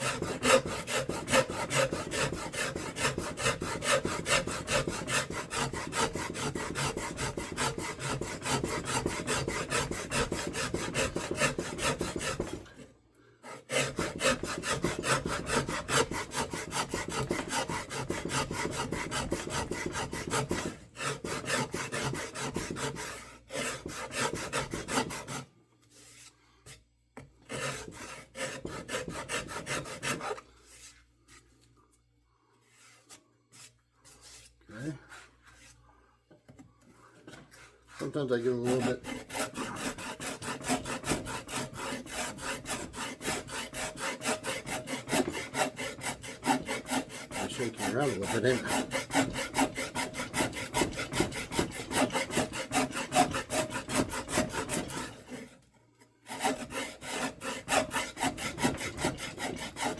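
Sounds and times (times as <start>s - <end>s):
rasp scraping wood: 0.0s - 26.8s, 27.4s - 31.5s, 37.2s - 55.6s, 56.2s - 59.9s.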